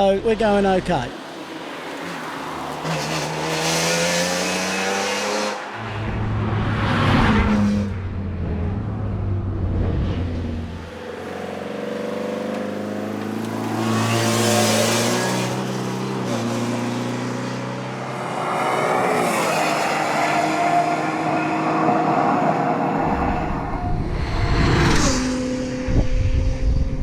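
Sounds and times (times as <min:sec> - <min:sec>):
car engine accelerating: 0:02.7 - 0:27.0.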